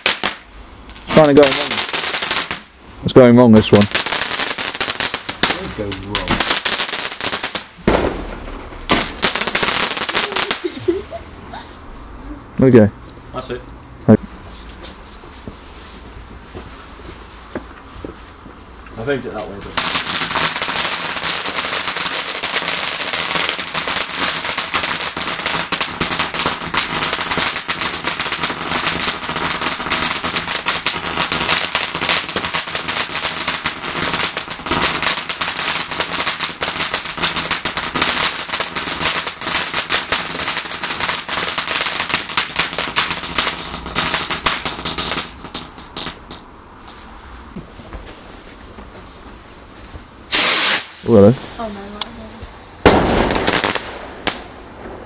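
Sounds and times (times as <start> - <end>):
firework crackling: 0.0 - 12.0, 19.0 - 47.5, 50.2 - 55.0.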